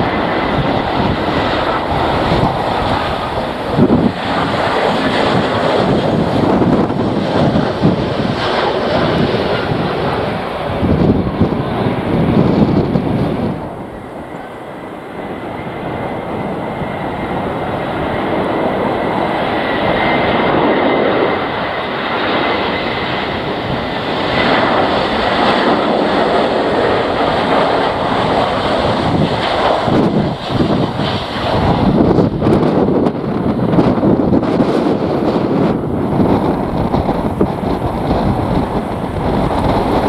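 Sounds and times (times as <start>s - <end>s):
jet engines rushing and whining: 0.0s - 40.0s.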